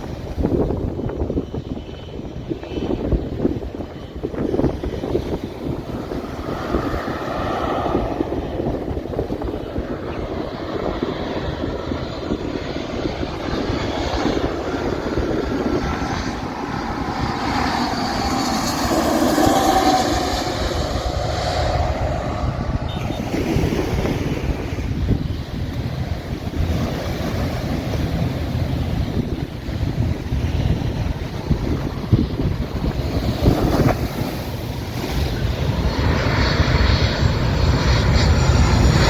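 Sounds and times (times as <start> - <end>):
jet engines roaring and whining: 0.0 - 39.0.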